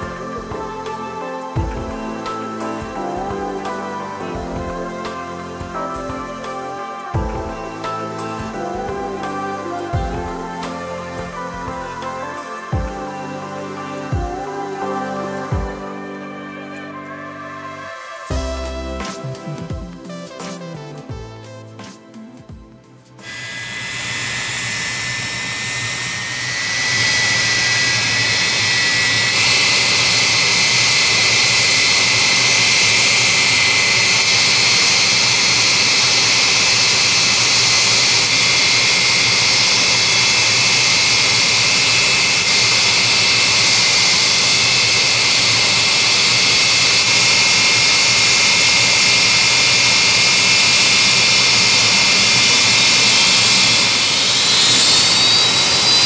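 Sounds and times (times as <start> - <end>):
jet engine whine: 0.0 - 16.0, 23.1 - 56.0.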